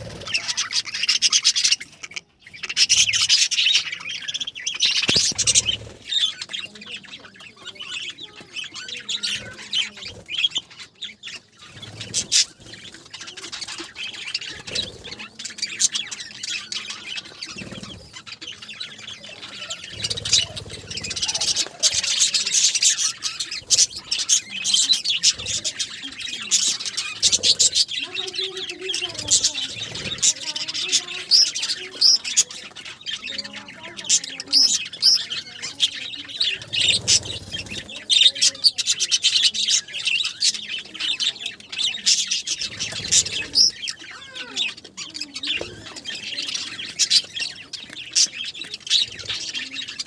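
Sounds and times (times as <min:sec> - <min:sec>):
budgerigars chattering and squawking: 0:00.0 - 0:50.0.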